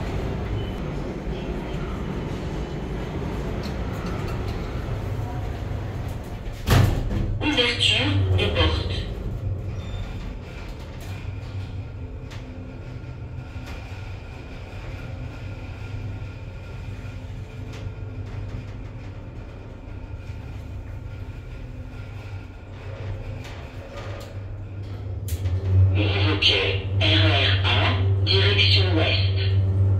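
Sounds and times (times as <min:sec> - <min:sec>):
low mechanical hum: 0:00.0 - 0:29.9.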